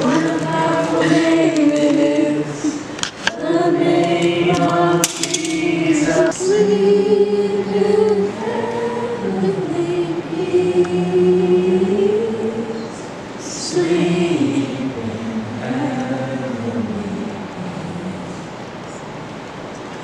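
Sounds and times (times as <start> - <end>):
group singing slow song: 0.0 - 19.0.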